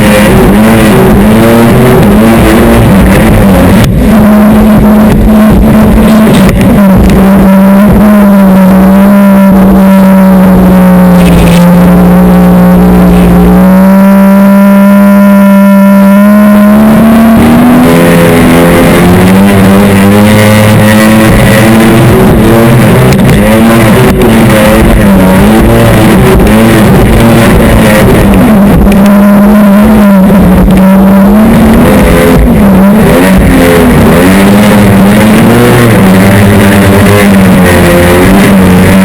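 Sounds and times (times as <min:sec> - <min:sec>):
jet ski engine at high revs: 0:00.0 - 0:39.0.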